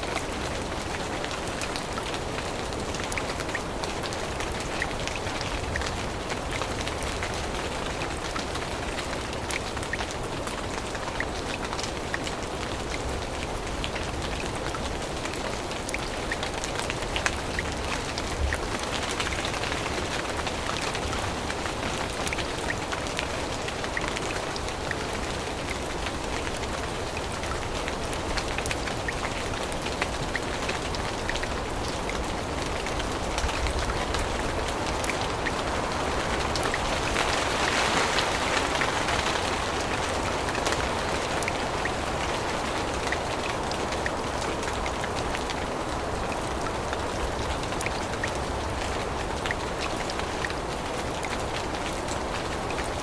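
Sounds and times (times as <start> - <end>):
raindrops tapping close by: 0.0 - 53.0
steady rain in a forest: 0.0 - 53.0.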